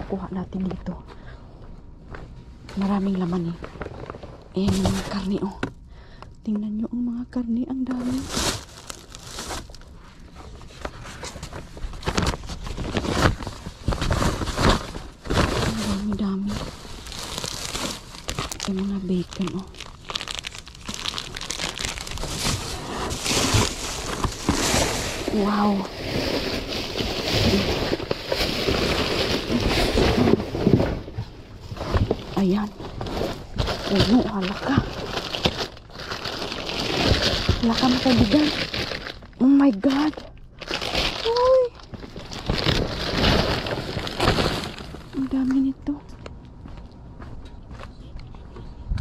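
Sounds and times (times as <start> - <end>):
plastic bags and cardboard rustling: 2.0 - 6.1, 7.8 - 46.0.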